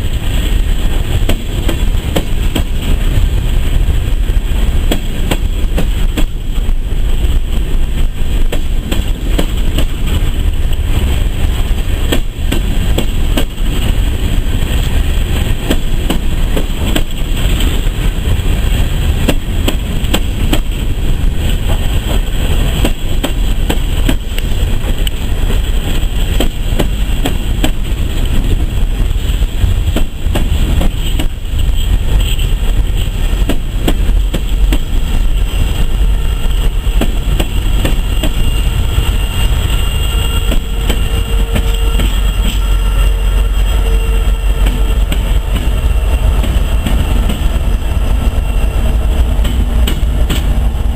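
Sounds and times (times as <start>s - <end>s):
train cars clicking and banging: 0.0s - 50.9s
train wheels rumbling on rails: 0.0s - 50.9s.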